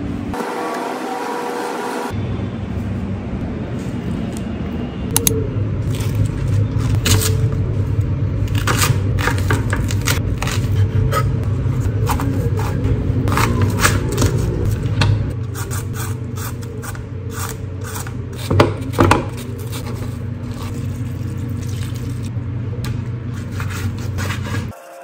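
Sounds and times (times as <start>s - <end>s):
steady low hum: 2.0s - 24.7s.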